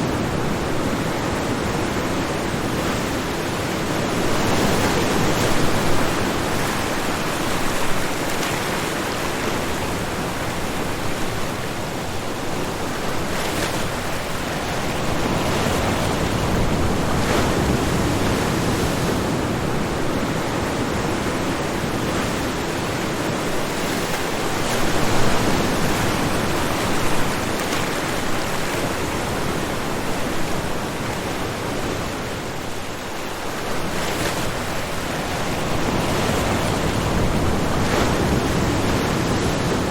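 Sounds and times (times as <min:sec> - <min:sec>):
ocean waves washing: 0:00.0 - 0:39.9
waves crashing: 0:00.0 - 0:39.9.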